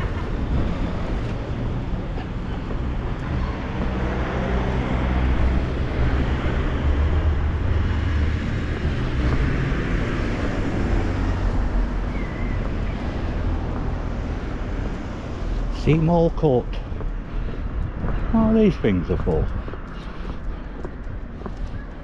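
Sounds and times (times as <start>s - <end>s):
car passing: 0.0s - 22.0s.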